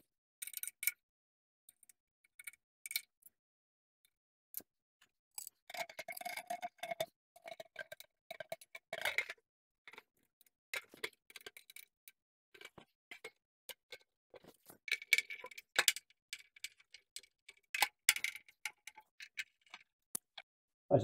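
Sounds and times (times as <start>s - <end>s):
small metallic clicks and ticks: 0.0s - 1.0s, 1.7s - 3.3s, 4.5s - 20.5s.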